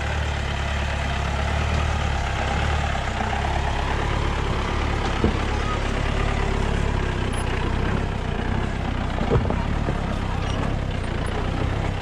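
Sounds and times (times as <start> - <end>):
diesel engine running at low speed: 0.0 - 12.0.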